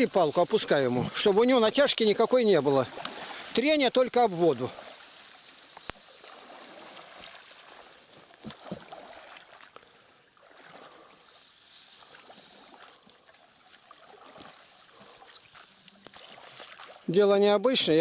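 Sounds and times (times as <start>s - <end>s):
faint water: 0.0s - 18.0s.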